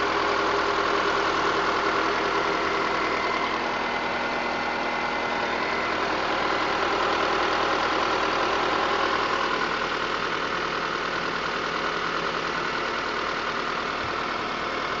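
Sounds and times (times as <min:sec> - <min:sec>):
car engine running: 0:00.0 - 0:15.0
engine ticking: 0:00.0 - 0:15.0.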